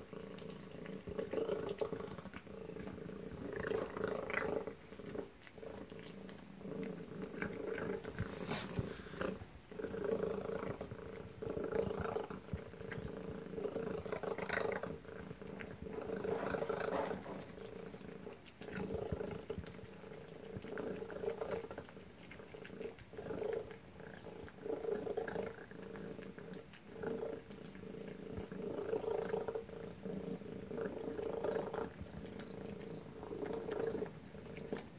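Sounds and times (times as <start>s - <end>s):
cat chewing and lapping food: 0.0s - 34.9s.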